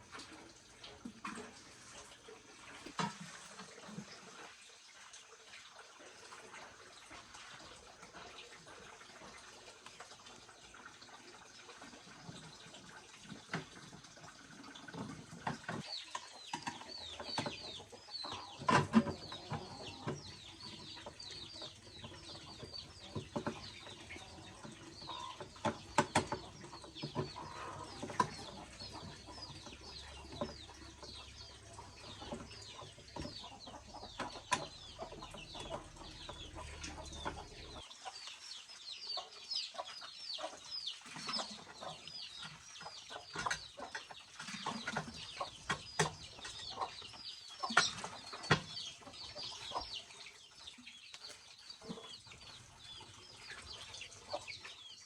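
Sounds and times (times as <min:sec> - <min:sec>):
chickens calling: 0:06.9 - 0:55.0.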